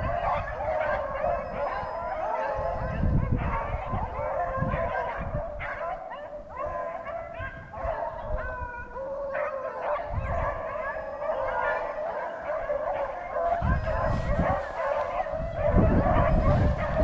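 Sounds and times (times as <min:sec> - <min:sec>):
hounds baying and howling: 0:00.0 - 0:17.0.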